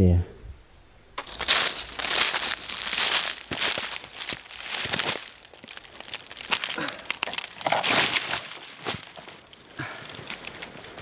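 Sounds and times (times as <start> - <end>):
footsteps crunching dry leaves: 1.2 - 11.0.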